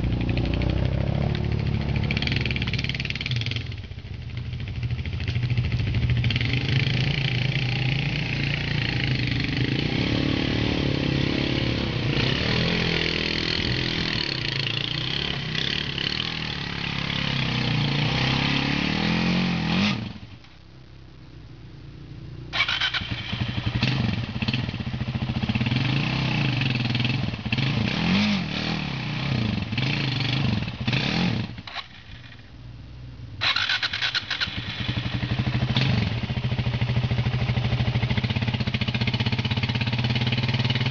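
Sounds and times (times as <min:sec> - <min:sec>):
atv engine revving: 0:00.0 - 0:20.2, 0:22.3 - 0:32.5, 0:33.4 - 0:40.9.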